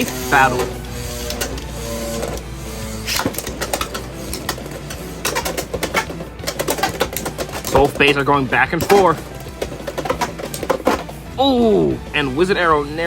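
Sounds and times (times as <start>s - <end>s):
spinning tops colliding and rattling: 0.0s - 11.3s
background music: 0.0s - 13.0s.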